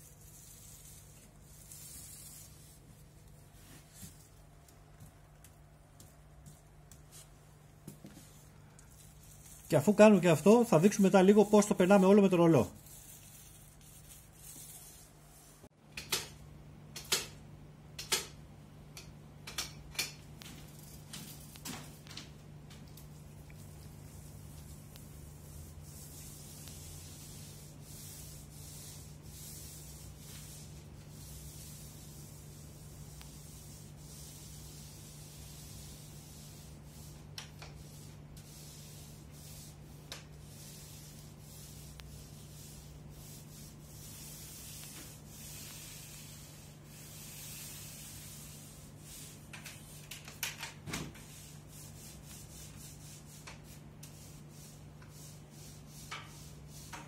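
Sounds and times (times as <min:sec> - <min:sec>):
paint roller swishing on wall: 0:00.0 - 0:16.2, 0:20.0 - 0:57.0.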